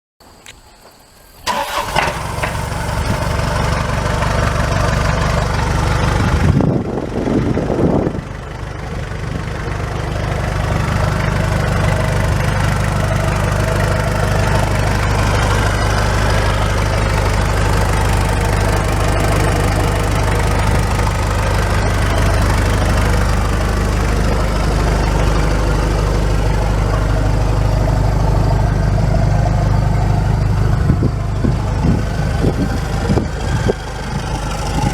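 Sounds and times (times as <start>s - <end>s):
truck engine idling: 1.2s - 34.9s.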